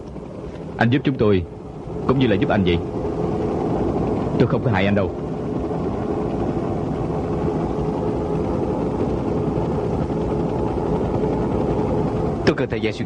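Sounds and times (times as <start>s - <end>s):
faint steady hum: 0.0s - 13.0s
vehicle engine low rumble: 0.0s - 13.0s.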